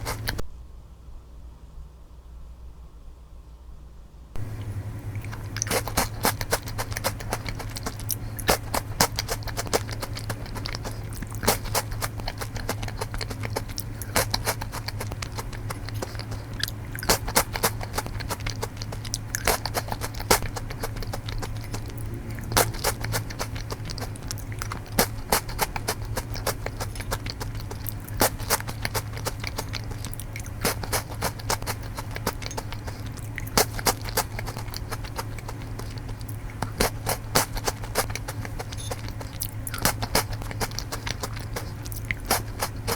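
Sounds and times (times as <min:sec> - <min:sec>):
crunching biscuit sticks: 0:00.0 - 0:00.4, 0:04.4 - 0:42.9
steady low hum: 0:00.0 - 0:42.9.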